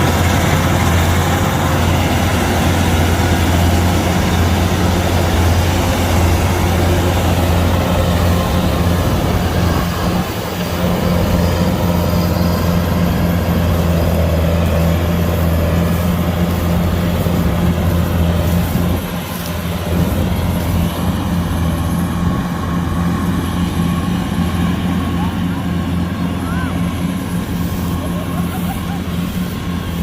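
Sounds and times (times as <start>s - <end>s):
combine harvester engine droning: 0.0s - 30.0s.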